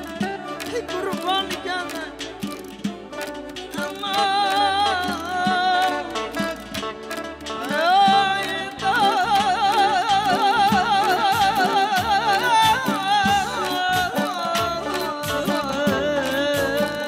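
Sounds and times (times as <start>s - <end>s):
band with steady drum beat: 0.0s - 17.0s.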